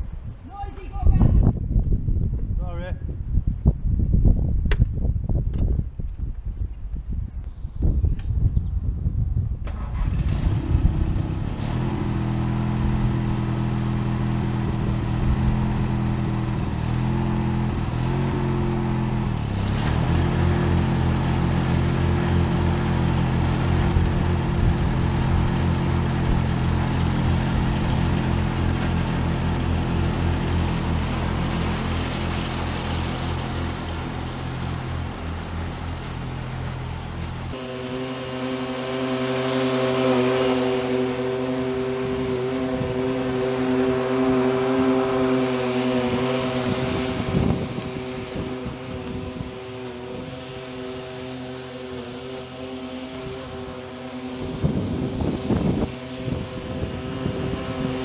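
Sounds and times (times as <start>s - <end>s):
ride-on lawn mower engine: 9.6s - 58.0s.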